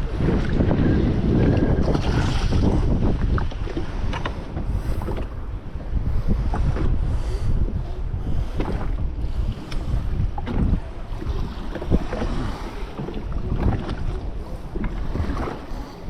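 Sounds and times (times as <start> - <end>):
water slapping against hull: 0.0 - 16.0
wind buffeting microphone: 0.0 - 16.0.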